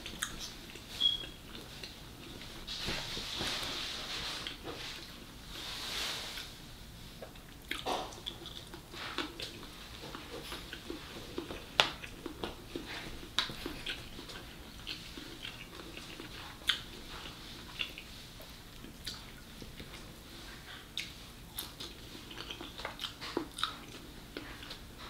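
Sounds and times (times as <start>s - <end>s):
chewing and mouth sounds: 0.0s - 3.8s, 7.2s - 25.0s.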